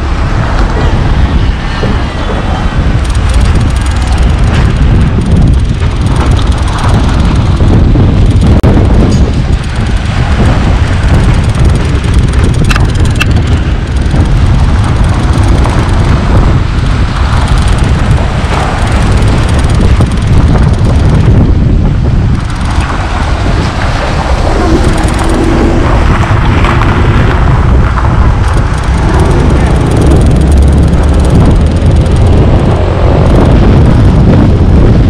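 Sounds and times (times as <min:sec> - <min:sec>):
road and engine rumble: 0:00.0 - 0:35.0
wind buffeting microphone: 0:00.0 - 0:35.0.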